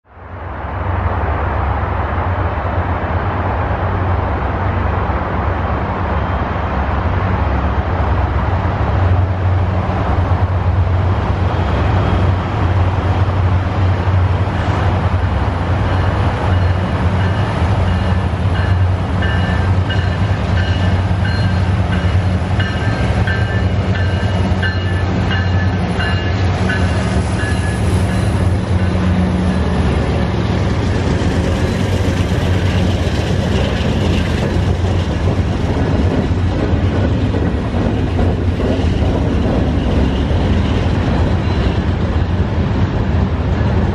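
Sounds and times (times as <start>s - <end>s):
freight train rolling: 0.1s - 43.9s
diesel locomotive rumble: 0.4s - 43.9s.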